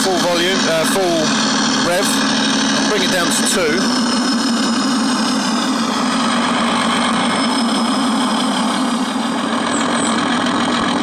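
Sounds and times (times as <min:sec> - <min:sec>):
diesel engine sound from loudspeaker: 0:00.0 - 0:11.0.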